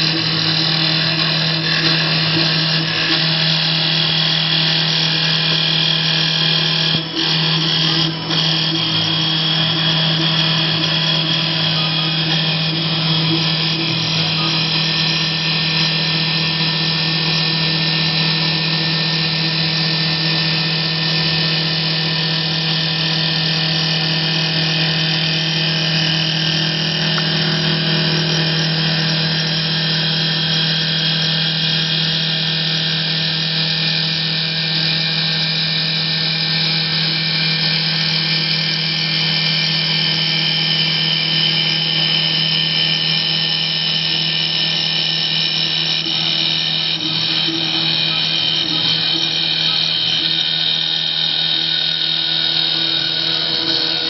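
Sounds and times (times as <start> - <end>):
lathe motor hum: 0.0 - 54.0.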